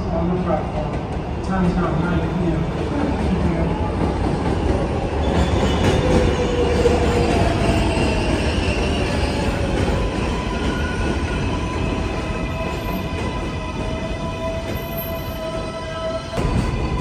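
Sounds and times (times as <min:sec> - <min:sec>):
train wheels rumbling on rails: 0:00.2 - 0:17.0.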